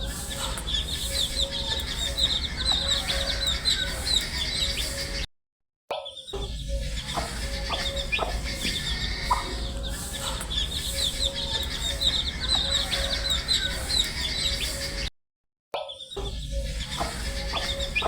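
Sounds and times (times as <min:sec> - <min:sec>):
baby chicks peeping: 0:00.0 - 0:05.2, 0:06.3 - 0:15.1, 0:16.1 - 0:18.0.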